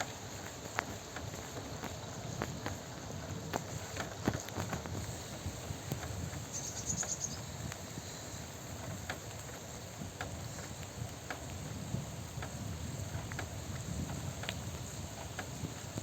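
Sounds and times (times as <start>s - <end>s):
raindrops ticking: 0.0s - 16.0s
steady rain: 0.0s - 16.0s.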